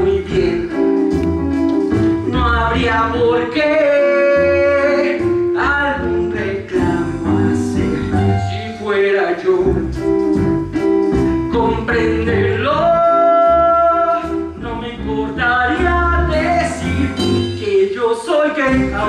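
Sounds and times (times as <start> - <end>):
man singing: 0.0 - 1.1, 2.0 - 10.2, 11.4 - 19.0
small band with bass and keyboard: 0.0 - 19.0.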